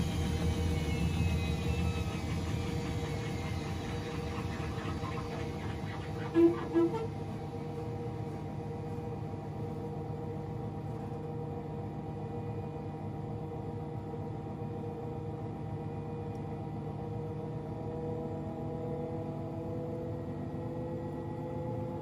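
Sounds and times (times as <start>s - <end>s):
steady hum: 0.0s - 18.4s
washing machine motor whine: 0.0s - 22.0s.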